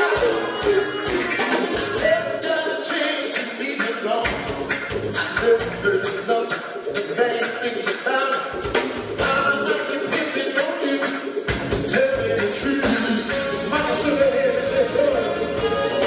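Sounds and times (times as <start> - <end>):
live soul band playing: 0.0 - 16.0
man singing into microphone: 1.7 - 4.5, 5.1 - 16.0.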